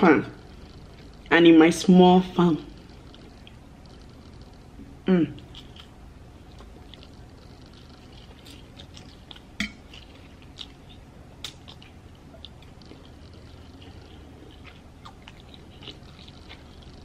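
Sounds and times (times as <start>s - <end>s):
person chewing noodles: 2.7s - 17.0s.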